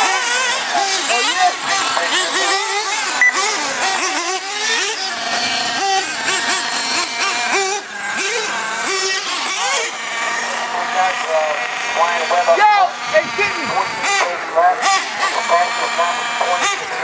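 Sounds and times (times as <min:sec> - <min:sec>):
rc truck motors revving: 0:00.0 - 0:17.0.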